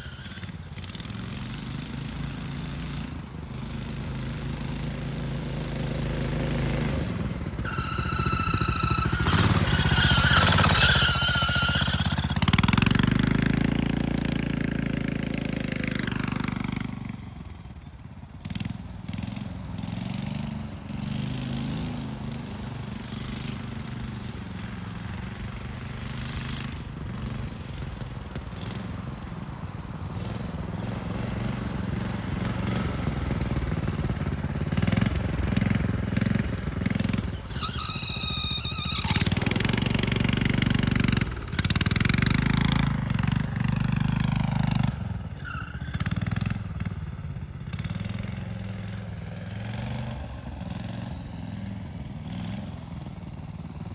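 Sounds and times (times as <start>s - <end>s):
minibike engine revving: 0.0s - 53.9s.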